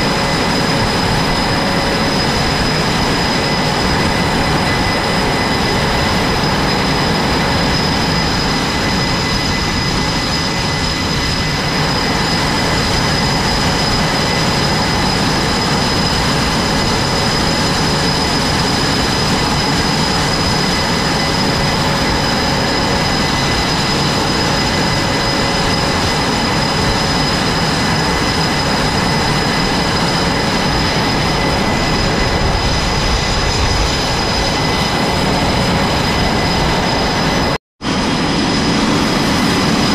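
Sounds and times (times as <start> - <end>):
high turbine whine: 0.0 - 39.9
jet engines roaring: 0.0 - 39.9.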